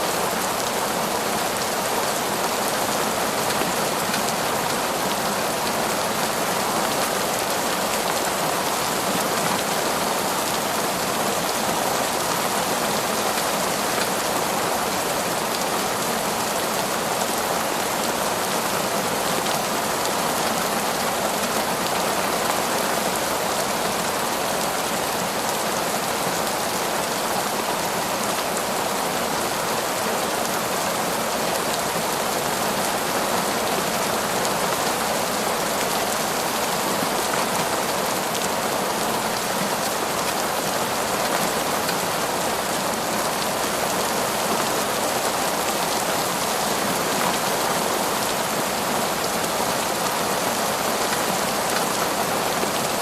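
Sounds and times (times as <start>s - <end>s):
heavy rain on foliage: 0.0s - 53.0s.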